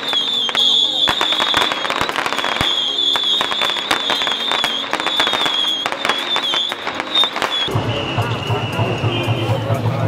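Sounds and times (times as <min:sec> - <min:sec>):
firecrackers crackling: 0:00.0 - 0:10.0.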